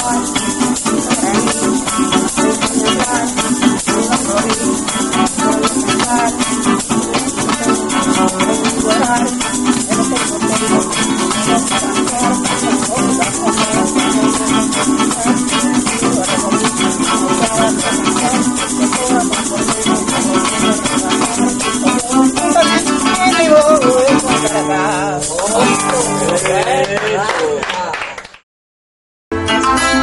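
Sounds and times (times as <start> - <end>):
maracas shaking: 0.0 - 26.9
plucked string instruments: 0.0 - 27.0, 29.3 - 30.0.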